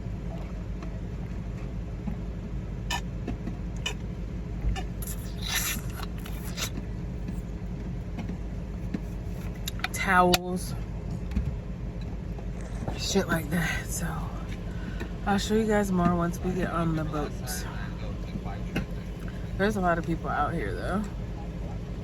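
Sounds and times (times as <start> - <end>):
low rumble inside car: 0.0 - 22.0.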